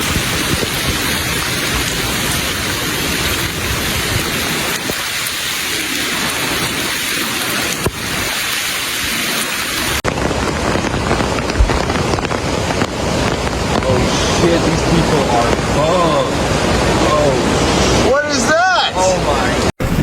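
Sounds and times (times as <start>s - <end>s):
dull rushing noise: 0.0s - 20.0s
heavy rain falling: 0.0s - 20.0s.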